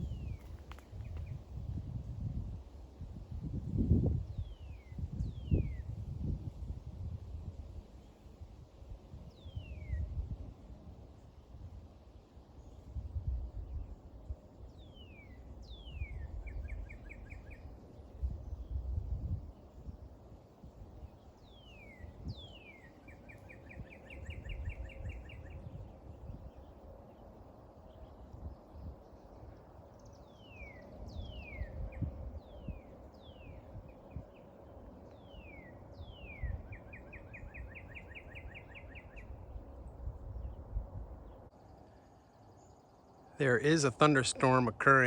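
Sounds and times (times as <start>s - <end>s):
songbird singing: 0.0s - 45.0s.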